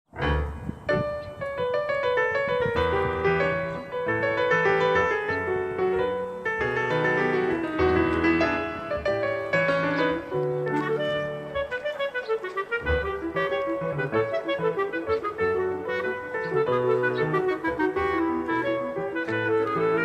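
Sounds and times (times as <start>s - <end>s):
piano music: 0.1s - 20.0s.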